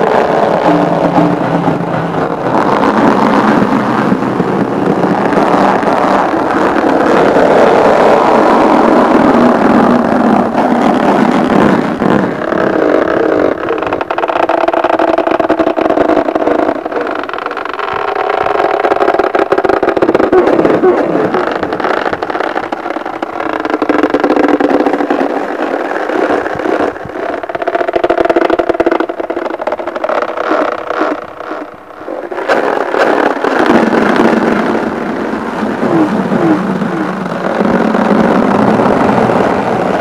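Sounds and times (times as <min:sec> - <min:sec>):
rubber ball rubbing and buzzing: 0:00.0 - 0:40.0.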